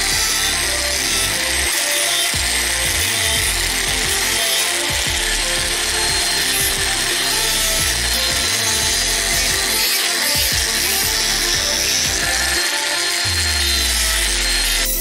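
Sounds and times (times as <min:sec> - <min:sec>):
background music: 0:00.0 - 0:15.0
rotary tool sanding wood: 0:00.0 - 0:15.0.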